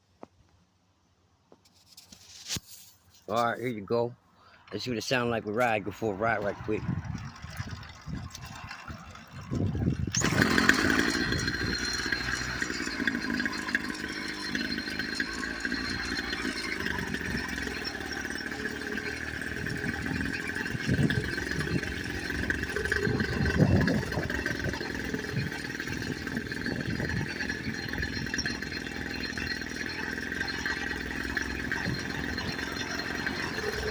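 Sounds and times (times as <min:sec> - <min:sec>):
high whine: 0:04.8 - 0:33.9
small motorbike engine running: 0:05.1 - 0:33.9.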